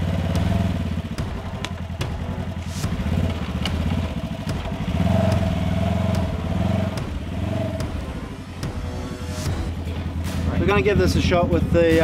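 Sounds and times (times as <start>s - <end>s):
utility vehicle engine revving: 0.0s - 11.9s.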